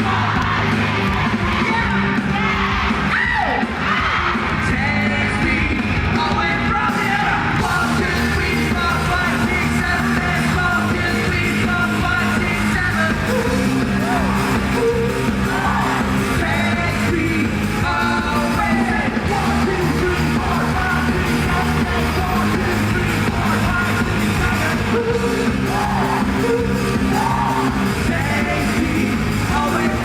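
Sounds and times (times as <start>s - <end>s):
rock band playing: 0.0s - 30.0s
person singing: 4.2s - 30.0s.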